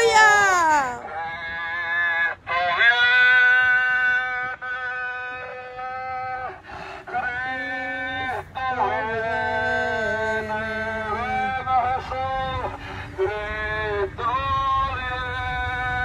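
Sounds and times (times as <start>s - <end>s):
man chanting through a megaphone: 0.0s - 16.0s.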